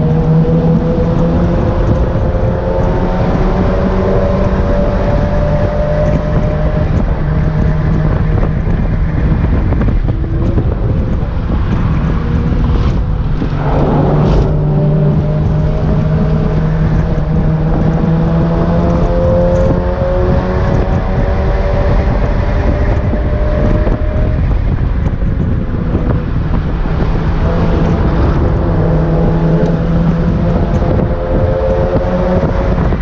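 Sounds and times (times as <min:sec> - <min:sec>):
car engine accelerating: 0:00.0 - 0:33.0
wind rush: 0:00.0 - 0:33.0.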